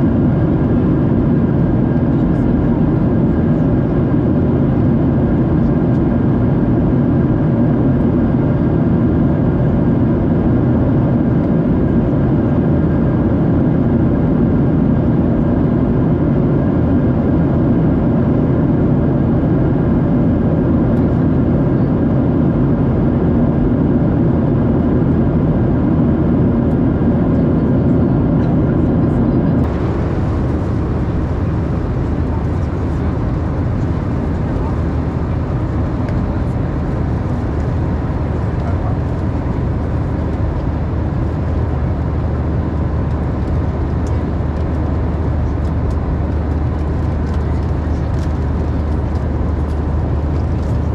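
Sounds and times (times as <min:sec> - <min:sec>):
airplane cabin engine and airflow rush: 0:00.0 - 0:50.9.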